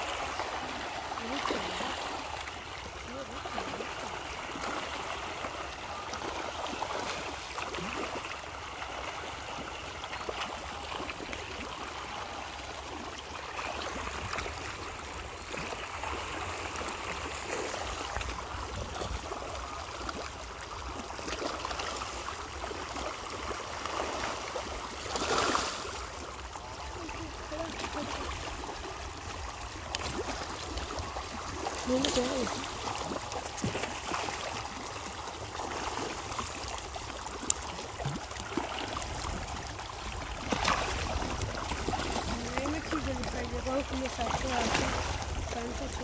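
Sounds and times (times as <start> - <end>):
fish splashing in pond: 0.0 - 46.0.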